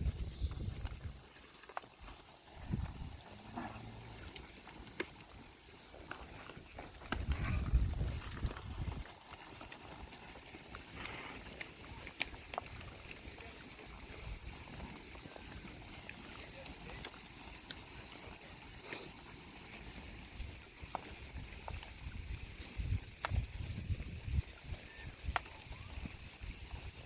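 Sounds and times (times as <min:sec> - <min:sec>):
hoof steps and knocks: 0:00.0 - 0:27.0.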